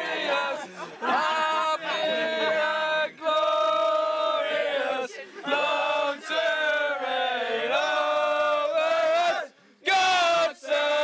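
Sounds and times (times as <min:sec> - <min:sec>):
group singing in unison: 0:00.0 - 0:11.0.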